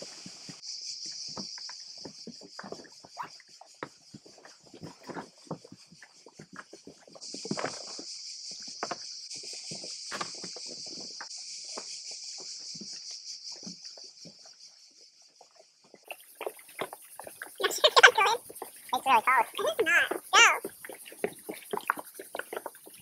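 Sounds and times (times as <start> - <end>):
cicadas buzzing: 0.0 - 23.0.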